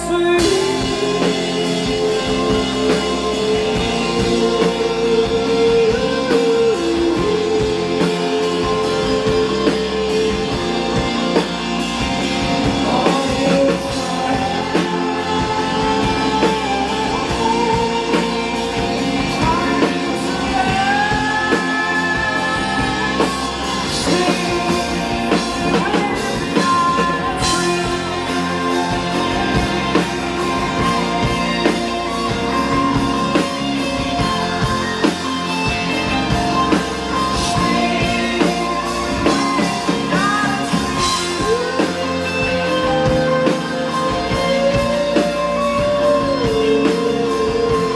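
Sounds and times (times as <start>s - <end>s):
drum kit beat: 0.0s - 47.9s
electric guitar: 0.0s - 47.9s
person singing: 0.0s - 47.9s.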